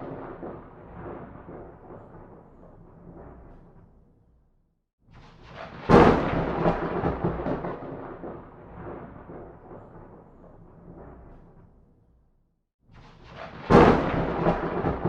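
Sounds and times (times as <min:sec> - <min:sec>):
thunderclap: 0:00.0 - 0:04.1, 0:05.2 - 0:11.9, 0:13.0 - 0:15.0.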